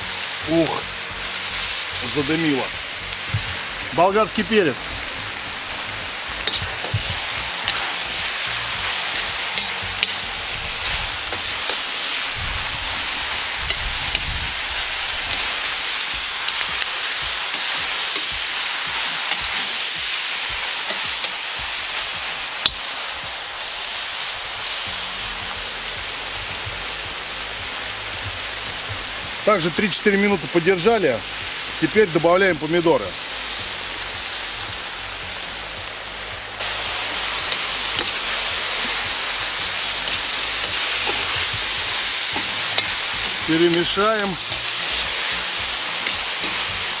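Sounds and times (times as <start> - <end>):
food sizzling in a pot: 0.0 - 47.0.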